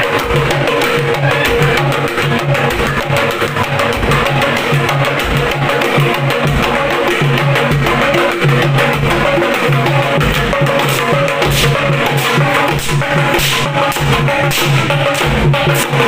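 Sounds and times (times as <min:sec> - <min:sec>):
drums playing: 0:00.0 - 0:16.0.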